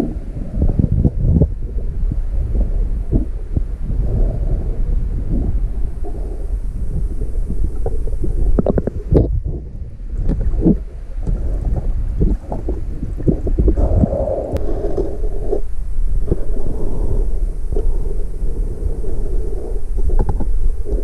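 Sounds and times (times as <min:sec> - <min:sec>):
bubbling clicks and knocks: 0:00.0 - 0:04.4, 0:05.2 - 0:16.9, 0:20.0 - 0:21.0
low underwater rumble: 0:00.0 - 0:21.0.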